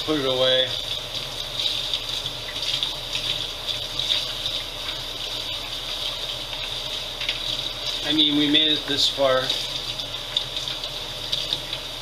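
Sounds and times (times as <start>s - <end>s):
water splashing on dishes: 0.0s - 12.0s.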